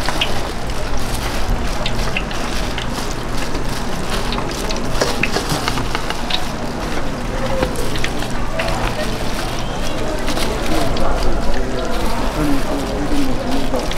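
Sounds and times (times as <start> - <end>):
food sizzling: 0.0 - 13.9.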